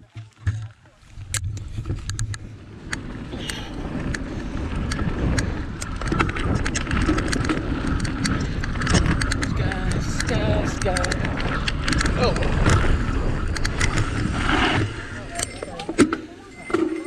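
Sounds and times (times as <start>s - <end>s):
bicycle rattling and clicking: 0.4s - 17.0s
wind on microphone: 1.1s - 17.0s.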